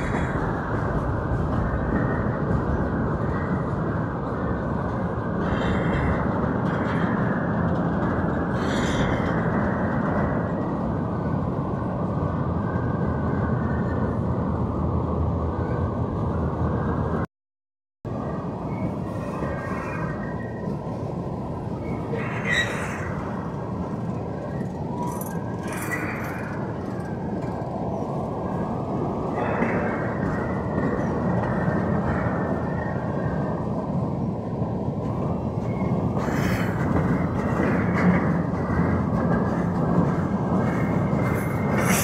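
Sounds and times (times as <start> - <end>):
train wheels rumbling on rail: 0.0 - 17.2, 18.1 - 42.0.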